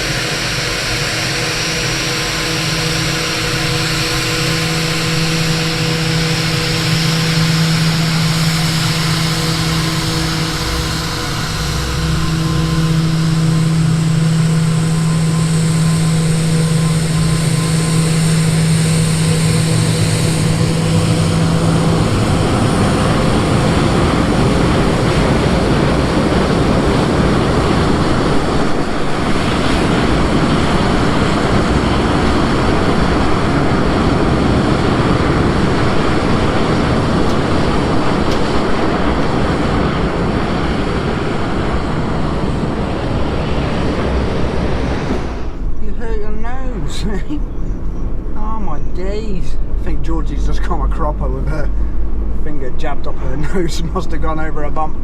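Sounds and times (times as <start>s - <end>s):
aircraft engine whine: 0.0s - 55.0s
rushing noise: 0.0s - 55.0s.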